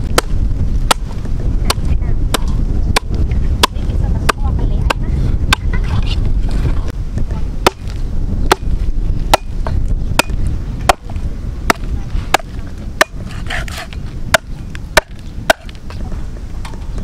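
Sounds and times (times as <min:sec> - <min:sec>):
cleaver chopping ribs on wood: 0:00.1 - 0:05.7, 0:07.6 - 0:15.8.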